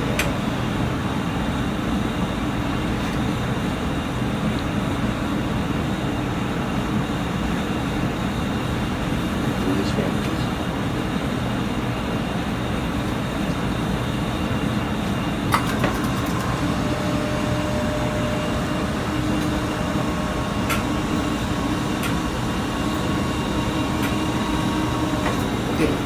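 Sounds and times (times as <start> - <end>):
air conditioning hum: 0.0 - 26.0.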